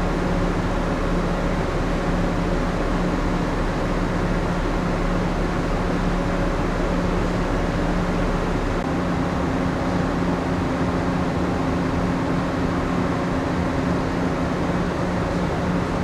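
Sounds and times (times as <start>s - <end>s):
ship machinery humming: 0.0s - 16.0s.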